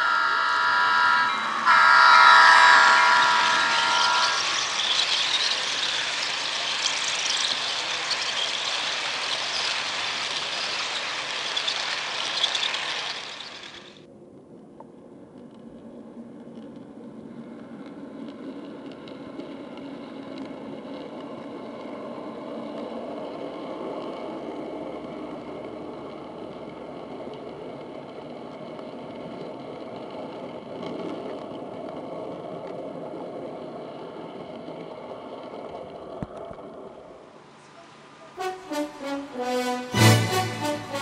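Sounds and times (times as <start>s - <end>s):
model train rumbling on track: 0.0s - 14.0s, 16.6s - 38.3s.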